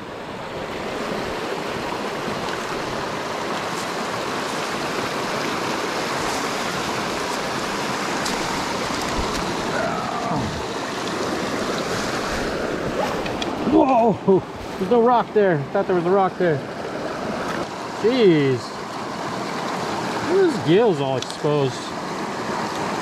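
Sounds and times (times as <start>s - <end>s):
stream running over rocks: 0.0s - 23.0s.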